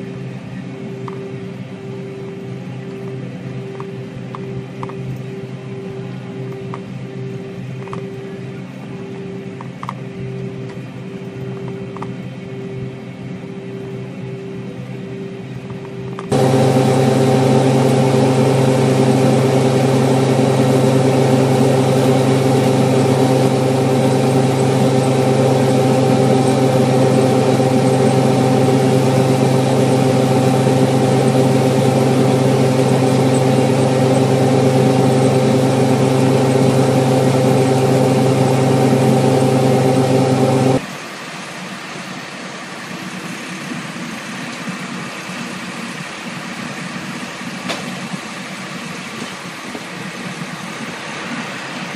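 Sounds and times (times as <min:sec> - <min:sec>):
combine harvester humming: 0:00.0 - 0:51.9
quieter engine and machinery: 0:00.0 - 0:51.9.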